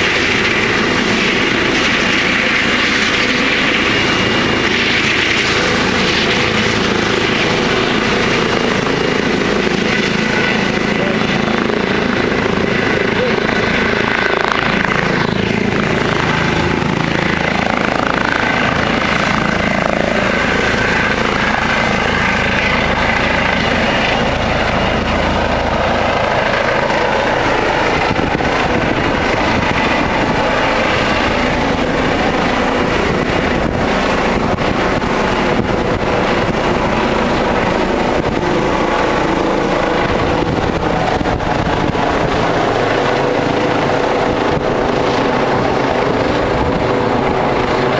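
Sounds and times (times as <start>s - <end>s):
helicopter turbine and rotor: 0.0s - 47.9s.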